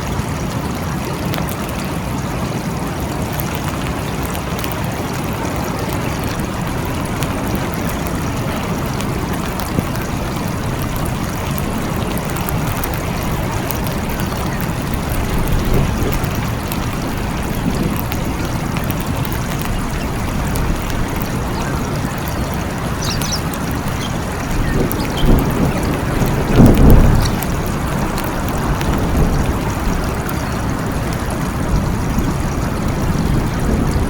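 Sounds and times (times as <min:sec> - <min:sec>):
steady rain falling: 0:00.0 - 0:34.0
low thunder rumbling: 0:05.9 - 0:34.0.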